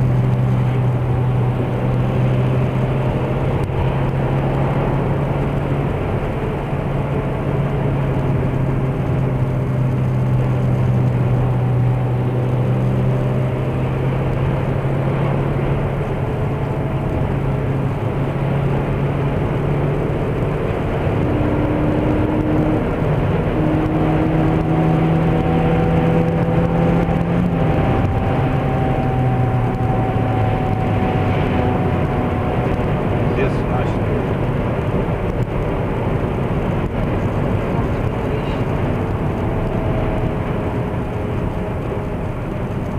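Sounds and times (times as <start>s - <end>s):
droning howl in car cabin: 0.0s - 42.9s
road noise: 0.0s - 42.9s.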